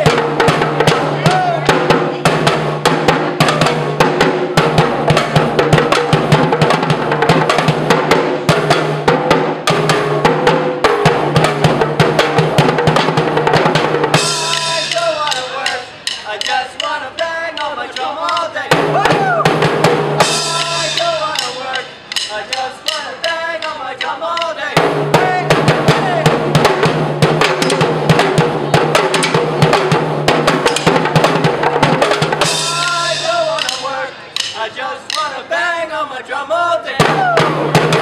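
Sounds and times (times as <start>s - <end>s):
drumming on buckets and barrels: 0.0s - 35.3s, 37.0s - 38.0s.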